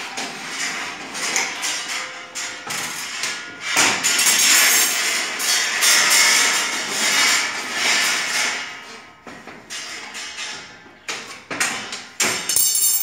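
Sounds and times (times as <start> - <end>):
wire scraping through rollers: 0.0 - 12.5.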